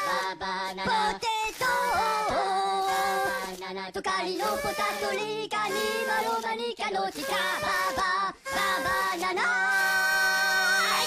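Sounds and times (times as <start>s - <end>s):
cartoonish voices singing a cappella: 0.0s - 11.0s.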